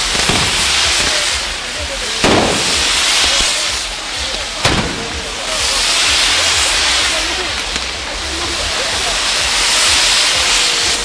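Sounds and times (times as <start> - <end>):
firework bangs: 0.0 - 11.0
fireworks hissing sparks: 0.0 - 11.0.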